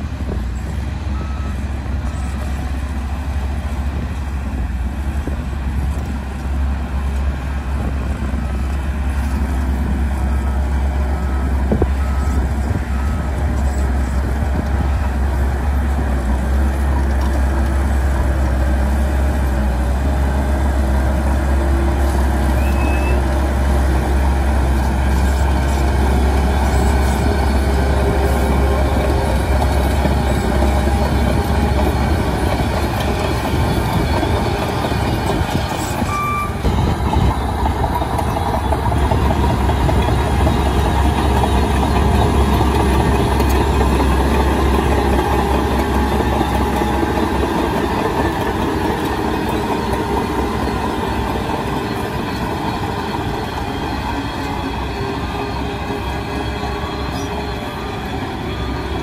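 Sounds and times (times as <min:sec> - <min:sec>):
bulldozer diesel engine running: 0:00.0 - 0:59.0
steel tracks clattering: 0:00.0 - 0:59.0.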